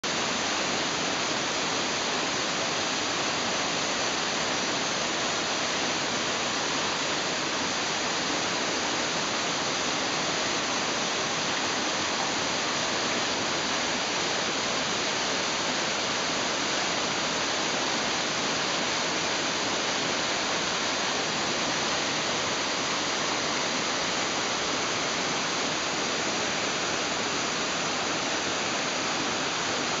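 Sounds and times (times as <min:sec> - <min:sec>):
small waterfall splashing: 0:00.0 - 0:30.0.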